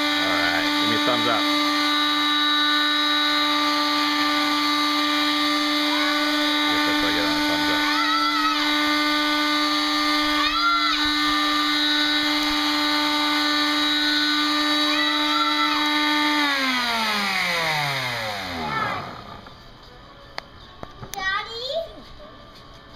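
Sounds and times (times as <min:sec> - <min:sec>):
electric palm sander running: 0:00.0 - 0:19.6.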